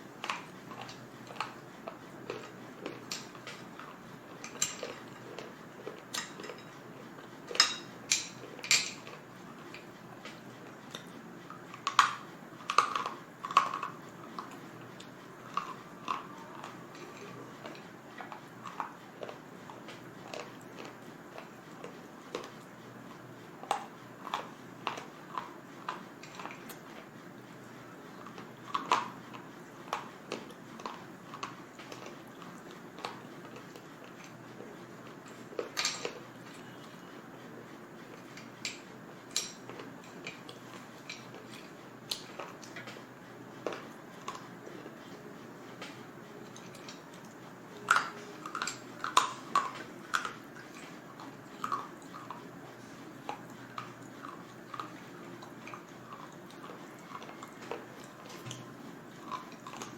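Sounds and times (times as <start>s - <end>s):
slate crunching being chewed: 0.2s - 37.1s, 38.0s - 59.9s.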